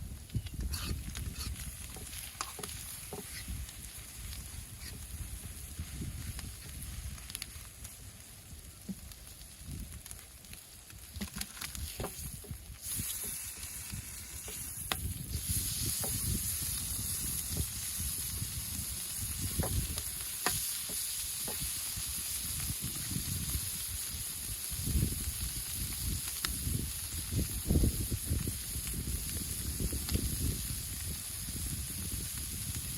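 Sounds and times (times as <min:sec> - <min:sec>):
food sizzling in a pan: 0:00.0 - 0:32.9.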